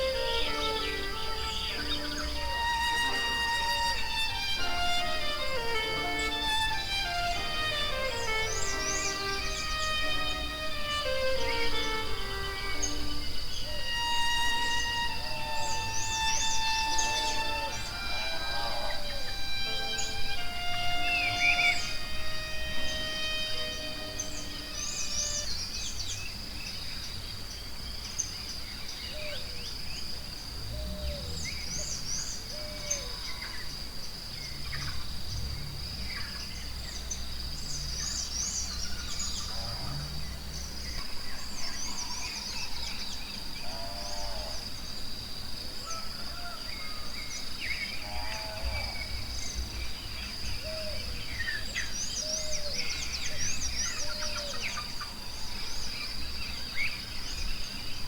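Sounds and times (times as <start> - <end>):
birds chirping and trilling: 0.0 - 30.1, 34.4 - 45.0, 45.8 - 58.0
high insect drone: 0.0 - 58.0.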